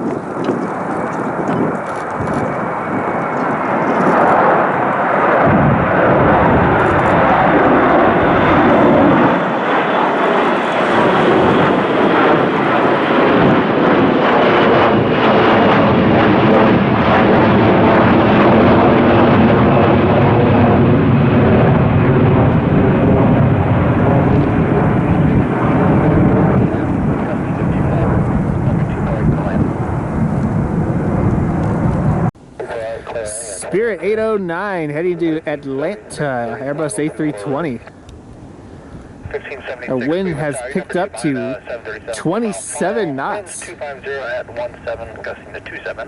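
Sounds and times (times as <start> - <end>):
jet engines roaring: 0.0 - 46.0.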